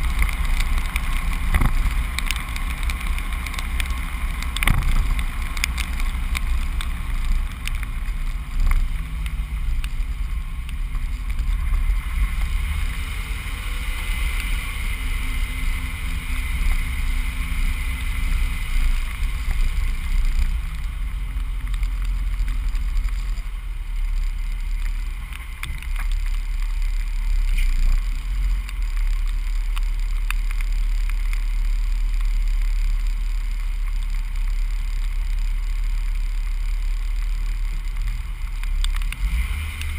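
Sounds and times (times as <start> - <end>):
truck rumbling: 0.0 - 39.9.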